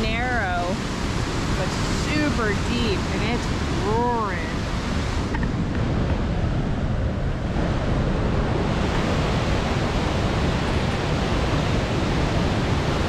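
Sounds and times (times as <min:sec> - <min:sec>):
whitewater rushing through gorge: 0:00.0 - 0:13.0.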